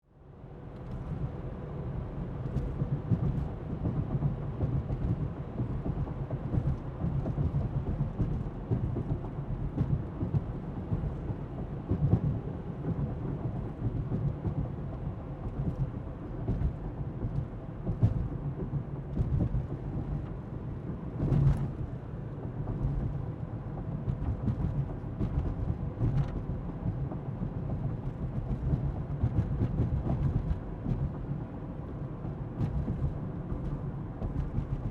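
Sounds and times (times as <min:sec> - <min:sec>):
car engine hum: 0:00.3 - 0:34.9
tyres rumbling on road: 0:00.8 - 0:34.9.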